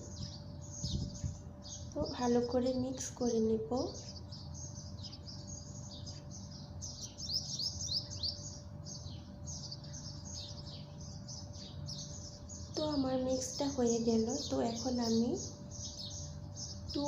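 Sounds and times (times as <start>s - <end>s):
faint steady hum: 0.0s - 17.0s
small birds chirping: 0.0s - 17.0s.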